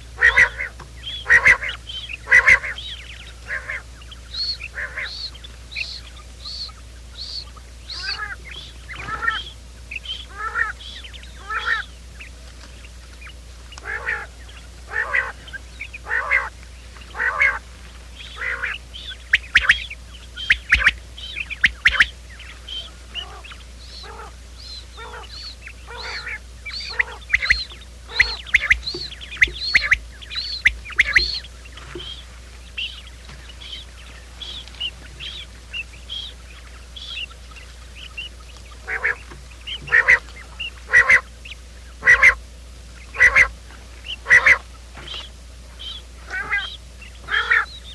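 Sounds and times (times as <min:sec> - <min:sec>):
quail calling: 0:00.0 - 0:47.9.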